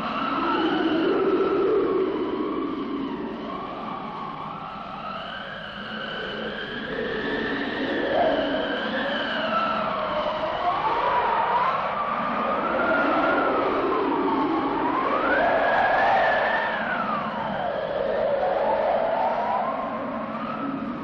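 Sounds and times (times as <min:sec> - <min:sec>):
wind howling: 0:00.0 - 0:21.0.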